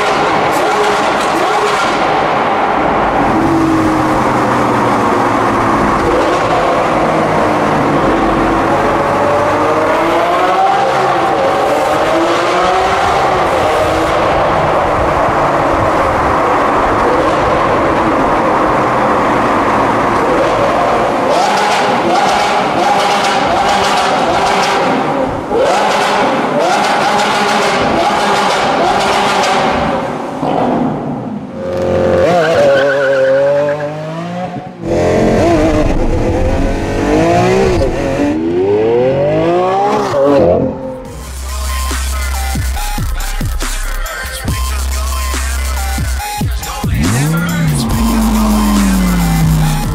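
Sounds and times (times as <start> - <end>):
car engine accelerating: 1.8 - 29.8, 31.7 - 41.2, 46.9 - 49.9.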